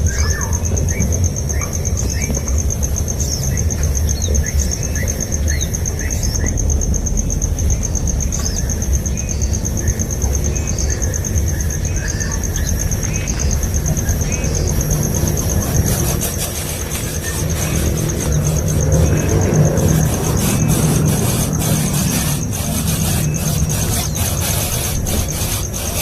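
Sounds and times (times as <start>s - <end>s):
insect trill: 0.0s - 26.0s
small birds chirping: 0.0s - 26.0s.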